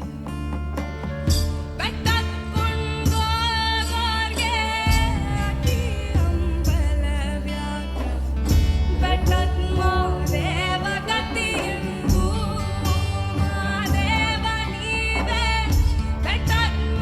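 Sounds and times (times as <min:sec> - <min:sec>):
instrumental accompaniment with bass: 0:00.0 - 0:17.0
woman singing: 0:01.7 - 0:17.0.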